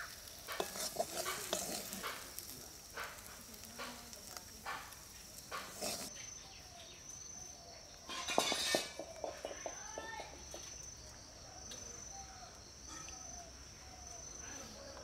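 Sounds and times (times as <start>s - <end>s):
bird calls and chatter: 0.0s - 15.0s
insect drone: 0.0s - 15.0s.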